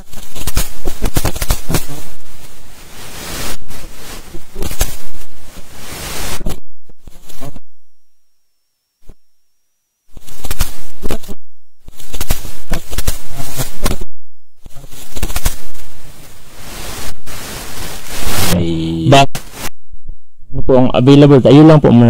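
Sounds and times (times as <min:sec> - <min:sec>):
steady hiss: 0:00.0 - 0:09.2, 0:09.8 - 0:19.8
crackling static with clicks: 0:00.0 - 0:19.8.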